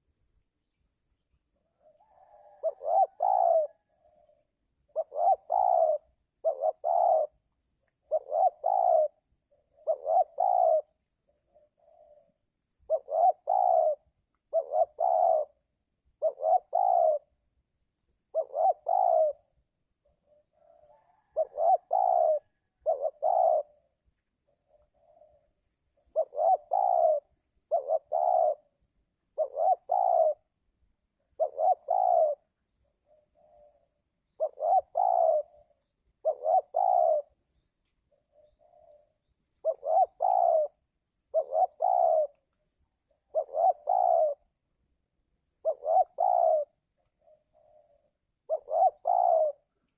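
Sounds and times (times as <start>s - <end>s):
faint distant coos: 1.5s - 17.5s, 18.1s - 30.5s, 31.2s - 44.6s, 45.4s - 49.9s
dove cooing: 1.5s - 44.7s, 45.4s - 49.9s
faint high chirps: 2.1s - 44.6s.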